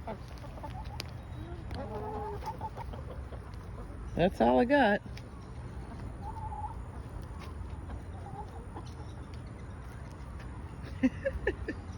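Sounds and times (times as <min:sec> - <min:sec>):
hens clucking: 0:00.0 - 0:11.9.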